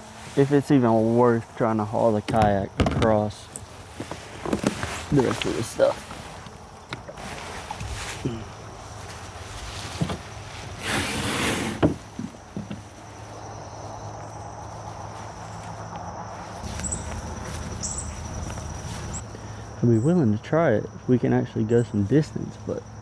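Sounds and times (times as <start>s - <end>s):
rustling noise: 0.0s - 19.6s
insects trilling: 0.0s - 23.0s.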